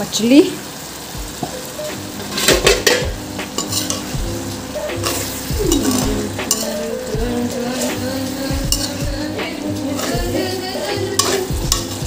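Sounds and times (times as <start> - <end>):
gravy sizzling: 0.0 - 12.0
metal spoon scraping a pan: 2.1 - 12.0.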